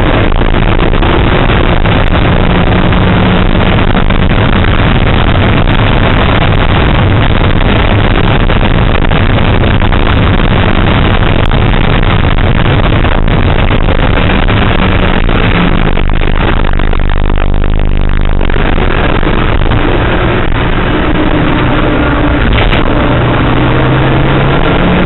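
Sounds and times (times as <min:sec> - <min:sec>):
car engine running hard: 0:00.0 - 0:25.0
road and tyre noise: 0:00.0 - 0:25.0.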